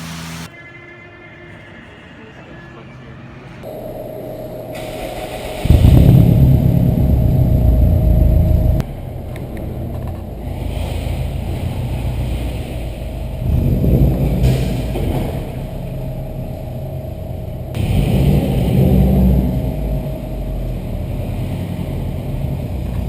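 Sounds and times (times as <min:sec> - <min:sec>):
turbocharged car engine accelerating: 0:03.7 - 0:23.0.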